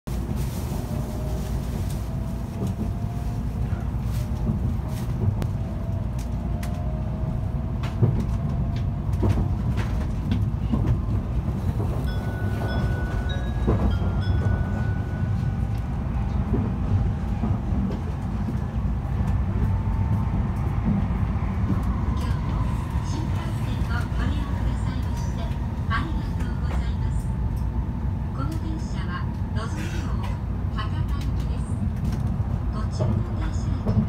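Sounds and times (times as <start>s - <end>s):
train low rumble: 0.1s - 34.0s.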